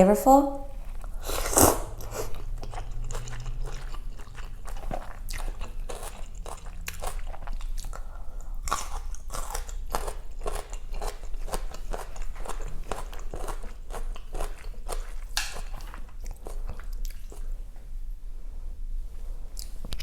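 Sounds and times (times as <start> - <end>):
mouth chewing crunchy food: 0.7 - 17.6.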